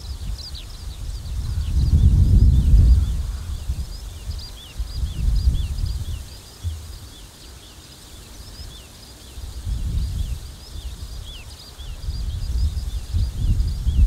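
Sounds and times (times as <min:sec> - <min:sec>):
wind gusting on microphone: 0:00.0 - 0:07.4, 0:08.3 - 0:14.0
bird chirping: 0:00.0 - 0:14.0.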